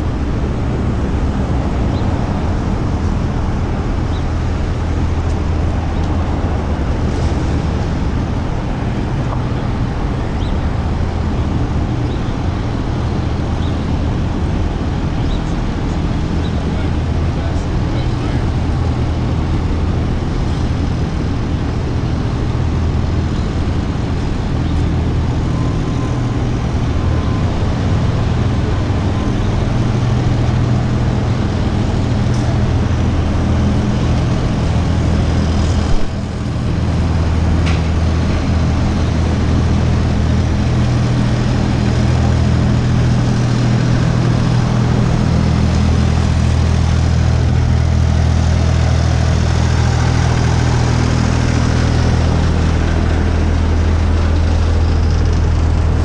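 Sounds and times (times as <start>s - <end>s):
road noise: 0.0s - 56.0s
traffic engine hum: 0.0s - 56.0s.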